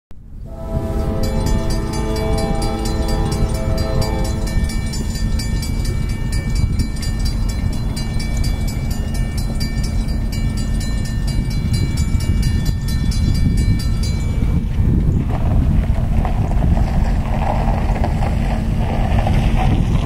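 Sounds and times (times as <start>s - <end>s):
freight train rumble: 0.2s - 20.0s.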